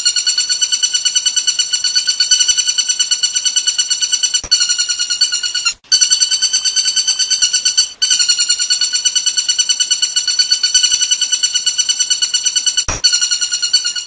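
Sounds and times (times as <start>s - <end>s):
bird trilling: 0.0s - 14.0s.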